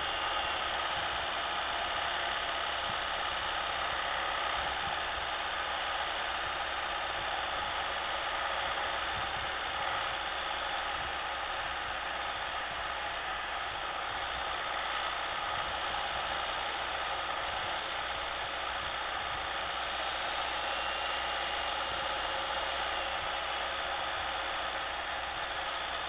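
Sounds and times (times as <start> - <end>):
diesel engine drone: 0.0 - 26.0.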